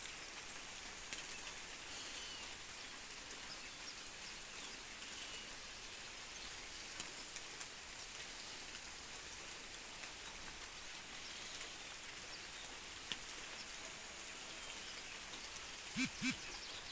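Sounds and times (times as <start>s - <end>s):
steady rain falling: 0.0s - 15.4s.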